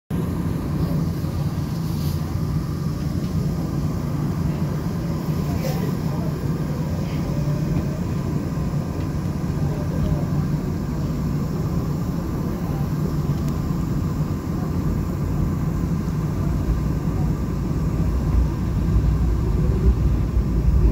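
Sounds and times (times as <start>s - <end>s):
train wheels rumbling on track: 0.1s - 20.9s.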